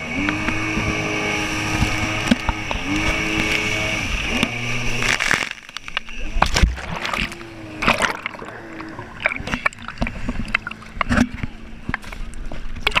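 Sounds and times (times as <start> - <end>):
faint jet ski engine hum: 0.0 - 13.0.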